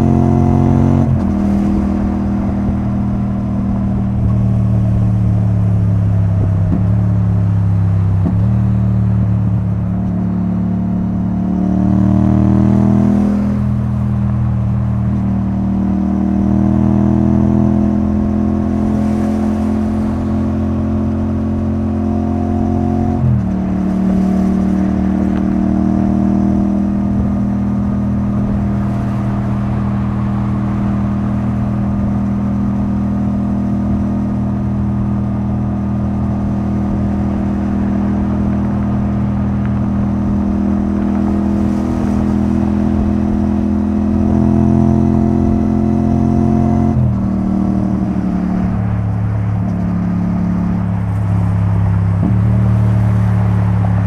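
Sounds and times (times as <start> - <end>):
motorcycle engine at speed: 0.0 - 54.0.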